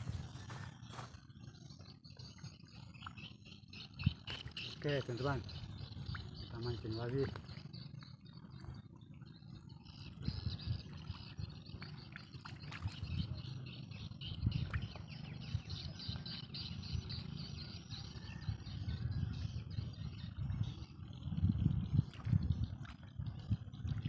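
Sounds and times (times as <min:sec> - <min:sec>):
bird chirping: 0:00.1 - 0:24.0.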